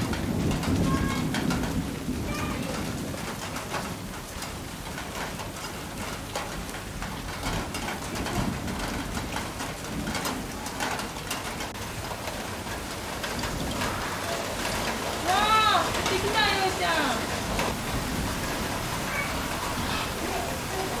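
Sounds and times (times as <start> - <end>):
rain drops ticking on hard surfaces: 0.0 - 21.0.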